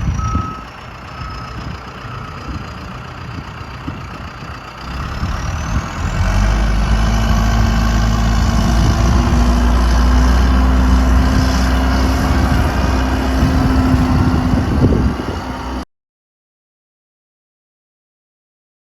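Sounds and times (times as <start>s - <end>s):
diesel engine rumbling: 0.0s - 15.8s.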